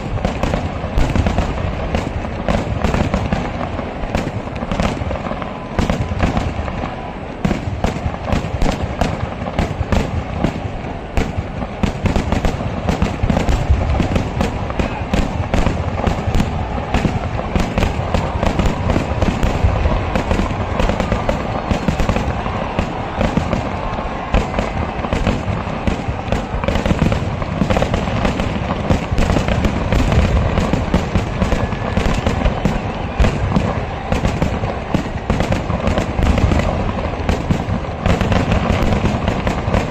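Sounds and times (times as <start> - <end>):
fireworks barrage crackling rumble: 0.0 - 39.9.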